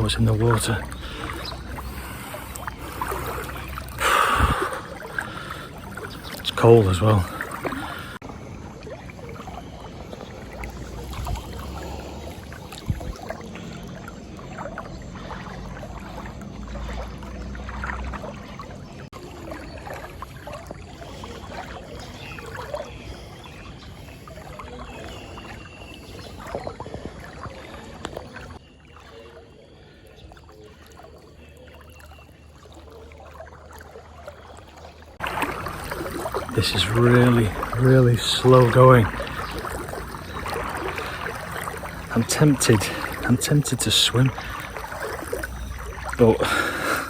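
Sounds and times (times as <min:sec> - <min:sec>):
water sloshing around wading legs: 0:00.0 - 0:47.0.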